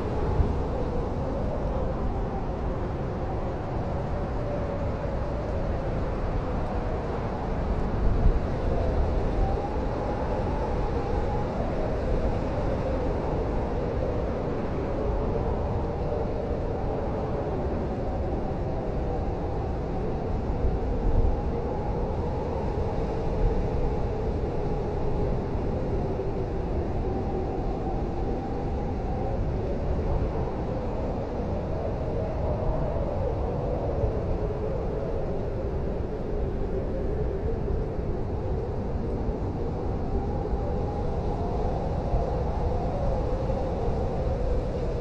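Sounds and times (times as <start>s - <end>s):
blizzard wind rumbling and howling: 0.0s - 45.0s.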